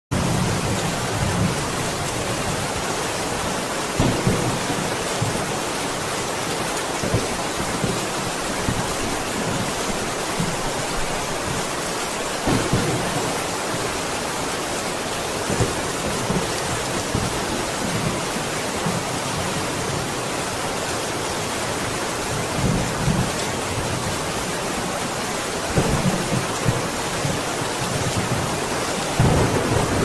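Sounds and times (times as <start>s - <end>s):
heavy rain: 0.1s - 30.0s.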